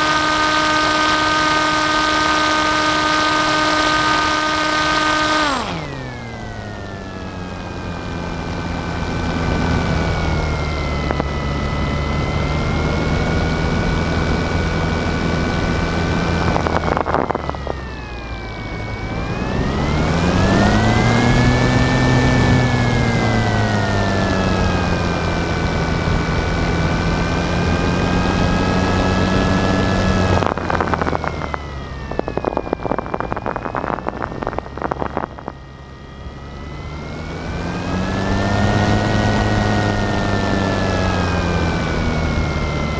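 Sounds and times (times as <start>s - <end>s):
drone motors whining: 0.0s - 42.9s.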